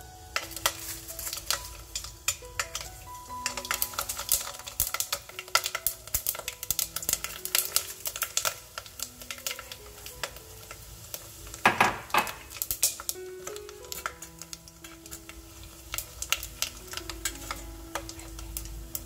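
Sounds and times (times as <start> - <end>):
seaweed crackling in hot oil: 0.0 - 19.0
soft background music: 0.0 - 19.0.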